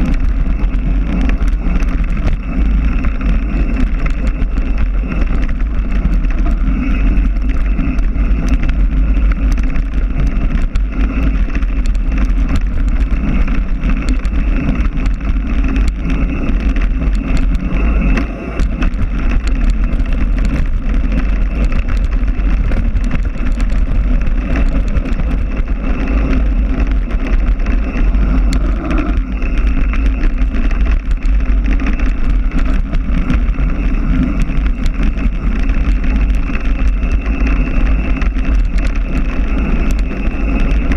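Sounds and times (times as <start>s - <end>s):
rumble and rattles over rough ground: 0.0s - 40.9s
wind buffeting microphone: 0.0s - 40.9s.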